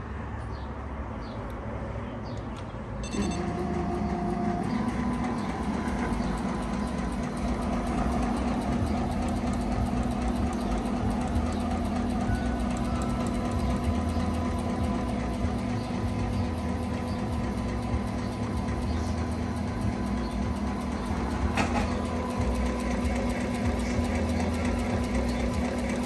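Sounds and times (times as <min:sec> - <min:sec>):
embroidery machine running: 0:03.0 - 0:26.0.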